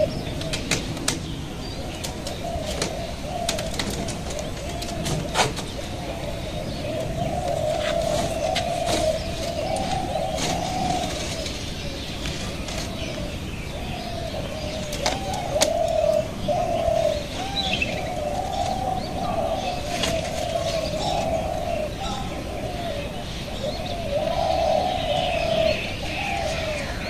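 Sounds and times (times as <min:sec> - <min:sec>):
doves cooing: 0:00.0 - 0:27.0
small birds chirping: 0:00.0 - 0:27.0.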